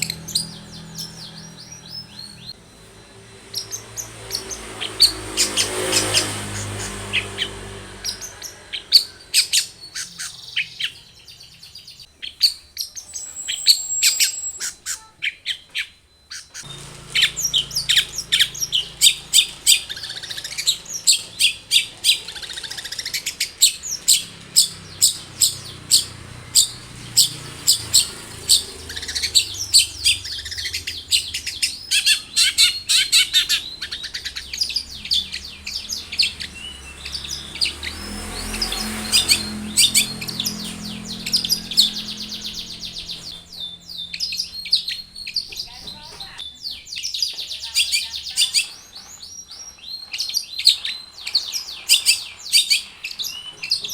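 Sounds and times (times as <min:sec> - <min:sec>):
shrike singing chattering chirps: 0:00.0 - 0:53.9.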